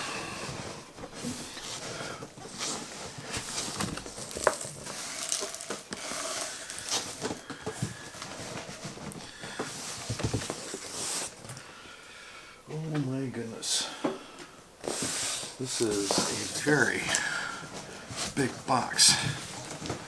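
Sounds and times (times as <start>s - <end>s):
cardboard rustling and scraping: 0.0s - 11.6s, 14.8s - 20.0s.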